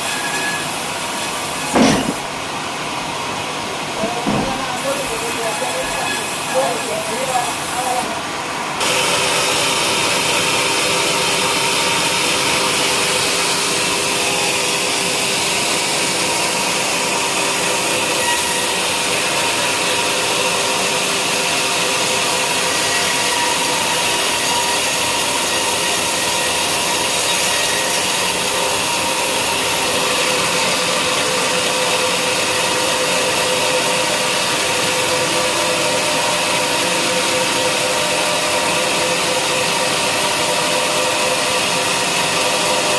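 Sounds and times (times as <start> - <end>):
saw blade cutting log: 0.0 - 2.4, 4.0 - 8.1, 8.8 - 42.9.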